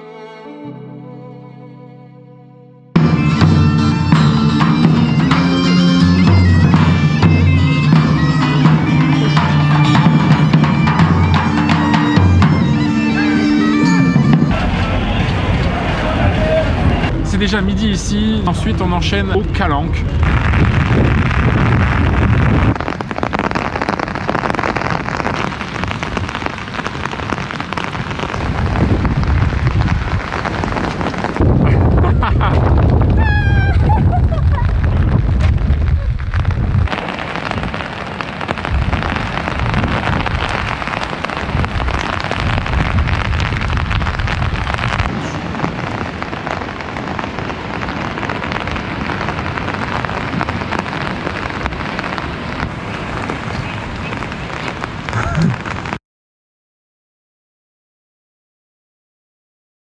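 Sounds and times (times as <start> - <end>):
rain pattering: 3.0 - 56.0
wind rumbling on microphone: 3.0 - 56.0.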